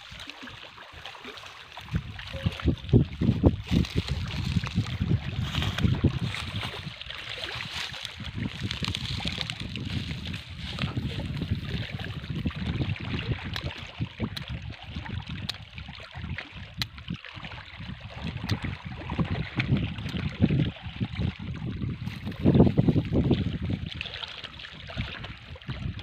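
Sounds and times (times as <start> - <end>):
wind buffeting microphone: 1.8 - 26.0.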